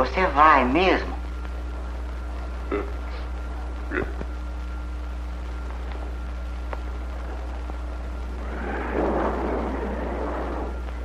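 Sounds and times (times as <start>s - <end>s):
old film soundtrack hum: 0.0s - 11.0s
thunder rumble: 0.0s - 11.0s.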